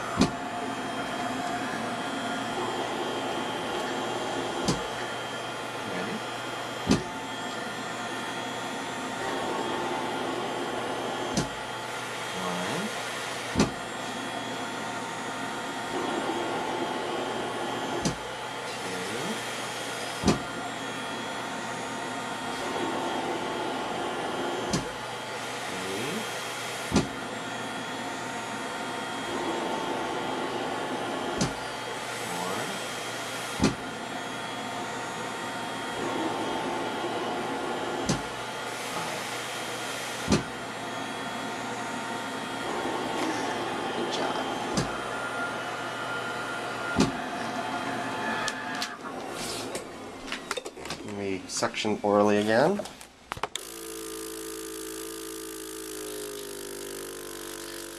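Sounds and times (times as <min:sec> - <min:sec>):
steady blower drone: 0:00.0 - 0:50.3, 0:53.6 - 0:57.9.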